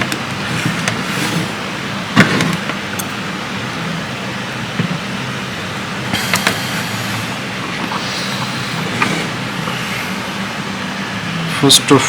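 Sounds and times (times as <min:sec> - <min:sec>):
fan whirring with low hum: 0:00.0 - 0:12.0.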